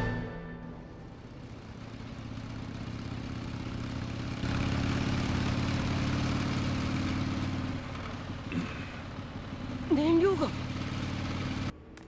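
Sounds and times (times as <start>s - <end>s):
motorcycle engine idling: 0.8s - 11.7s.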